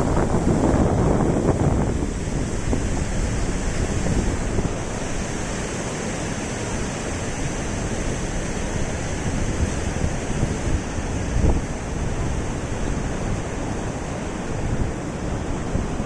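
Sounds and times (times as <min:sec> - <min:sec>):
river water rushing: 0:00.0 - 0:16.0
wind rumbling on microphone: 0:00.0 - 0:16.0.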